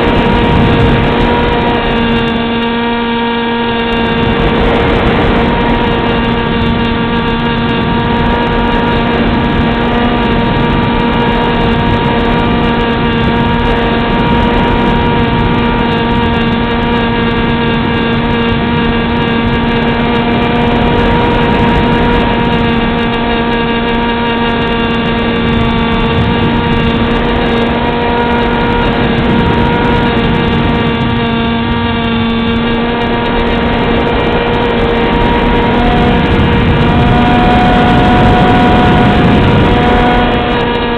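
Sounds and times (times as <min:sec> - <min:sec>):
model plane motor droning: 0:00.0 - 0:40.9
rushing air: 0:00.0 - 0:40.9.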